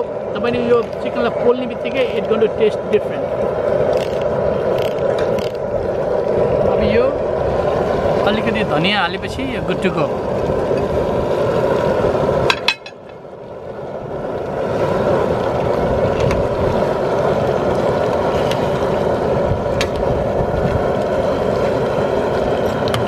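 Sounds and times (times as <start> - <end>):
propane burner rushing: 0.0 - 23.0.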